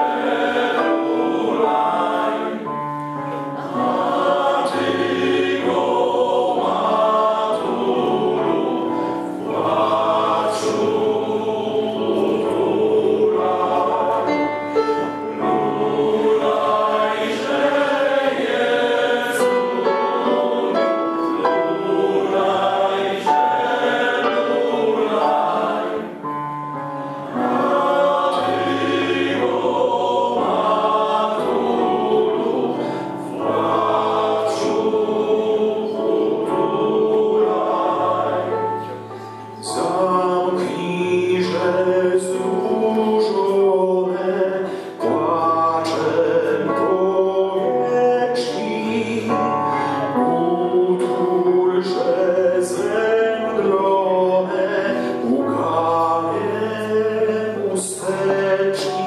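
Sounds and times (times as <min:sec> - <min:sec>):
men's choir singing: 0:00.0 - 0:59.0.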